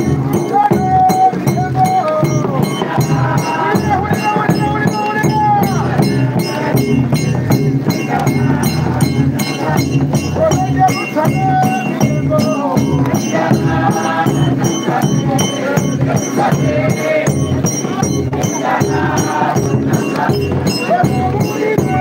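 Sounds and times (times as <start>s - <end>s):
frame drums beating: 0.0s - 22.0s
group of people singing: 0.0s - 22.0s
tambourine jingles: 0.0s - 22.0s.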